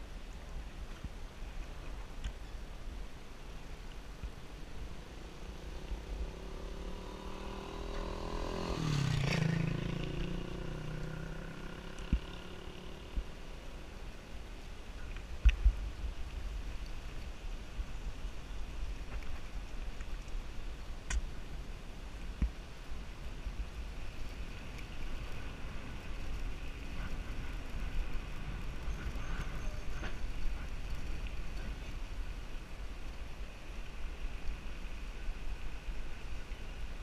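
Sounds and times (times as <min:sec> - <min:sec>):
wind and road rumble: 0:00.0 - 0:37.0.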